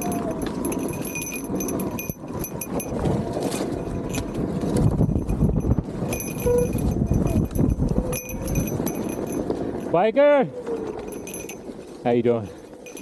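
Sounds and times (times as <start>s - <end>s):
light metallic jingling: 0.0s - 13.0s
motorcycle engine and tyre rumble: 0.0s - 13.0s.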